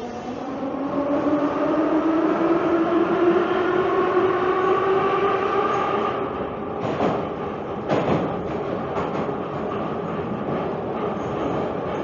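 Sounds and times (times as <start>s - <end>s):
rumble of train cars: 0.0s - 12.0s.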